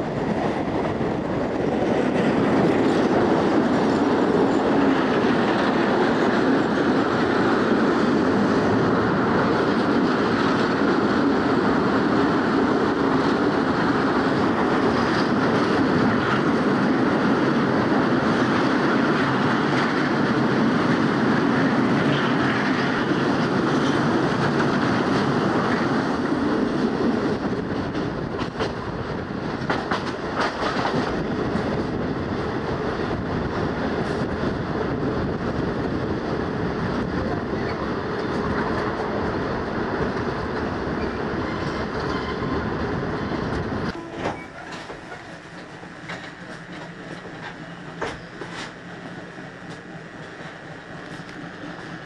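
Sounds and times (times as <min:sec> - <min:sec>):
rail joint clicks: 0:00.0 - 0:52.0
train wheels rumbling on rail: 0:00.0 - 0:52.0.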